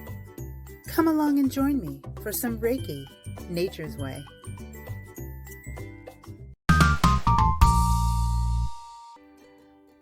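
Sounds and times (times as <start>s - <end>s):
background music with plucked notes: 0.0s - 10.0s.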